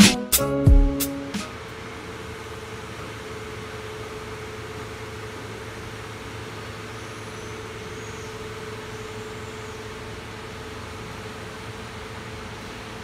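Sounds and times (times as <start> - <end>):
factory machinery hum and hiss: 0.0 - 13.0.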